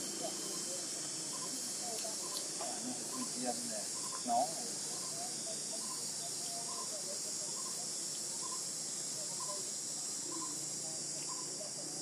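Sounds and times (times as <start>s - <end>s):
insects shrilling drone: 0.0s - 12.0s.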